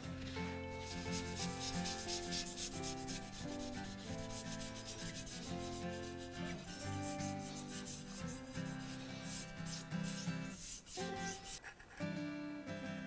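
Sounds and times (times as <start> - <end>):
toothbrush scrubbing metal: 0.7 - 11.9.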